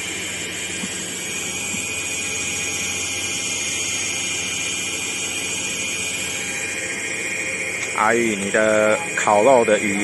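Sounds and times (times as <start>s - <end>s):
boat machinery drone with whine: 0.0s - 10.0s.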